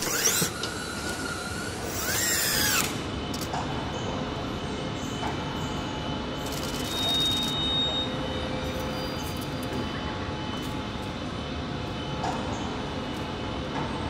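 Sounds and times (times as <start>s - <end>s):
factory hall background noise: 0.0s - 14.0s
faint hum tones: 0.0s - 14.0s.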